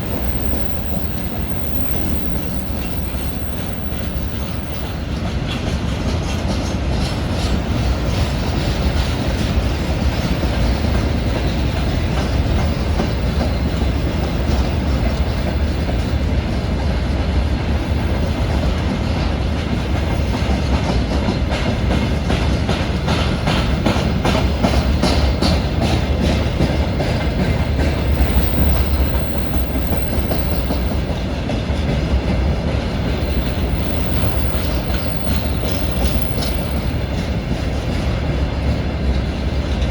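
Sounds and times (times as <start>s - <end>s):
freight train rumbling past: 0.0s - 39.9s
train wheels clacking on rails: 0.0s - 39.9s.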